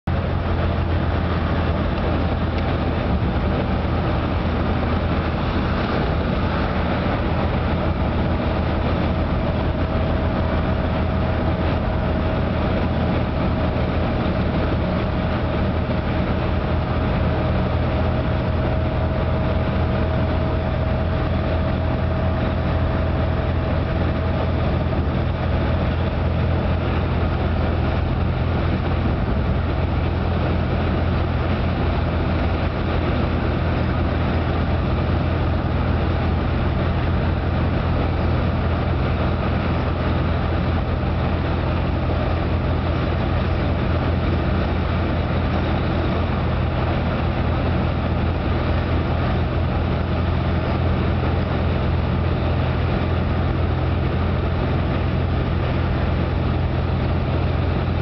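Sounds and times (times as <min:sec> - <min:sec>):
car road and engine rumble: 0:00.0 - 0:58.0
faint steady whine: 0:00.1 - 0:58.0.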